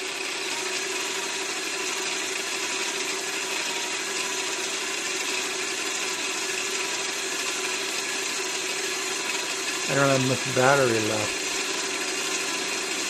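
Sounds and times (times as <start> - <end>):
cordless drill turning: 0.0 - 13.0
lathe whirring: 0.0 - 13.0.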